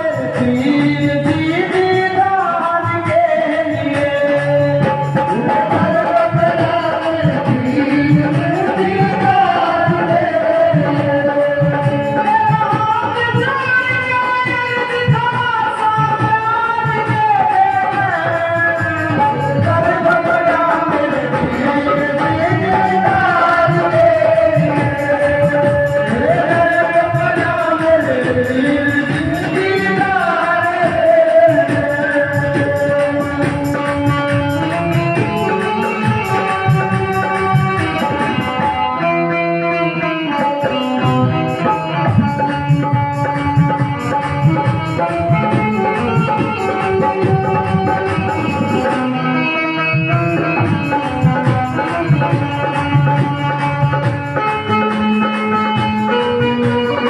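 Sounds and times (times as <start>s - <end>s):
steady drum beat: 0.0s - 38.8s, 41.1s - 49.2s
keyboard melody: 0.0s - 57.0s
woman singing into microphone: 0.0s - 57.0s.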